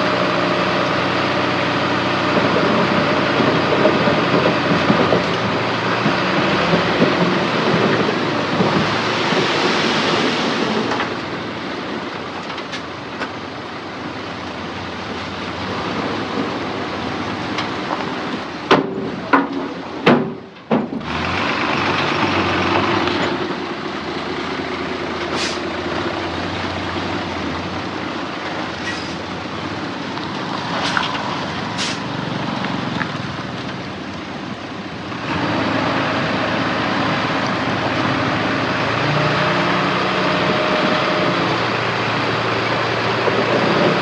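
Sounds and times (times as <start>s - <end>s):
heavy diesel machinery engines: 0.0s - 44.0s.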